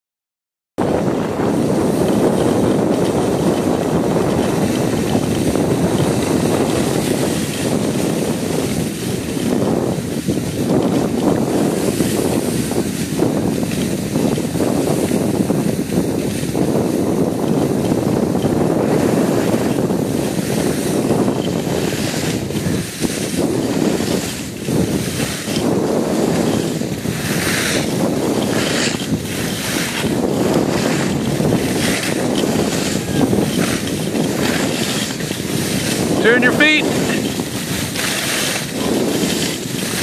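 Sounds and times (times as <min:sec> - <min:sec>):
skis scraping over snow: 0:00.8 - 0:40.0
wind buffeting microphone: 0:00.8 - 0:40.0.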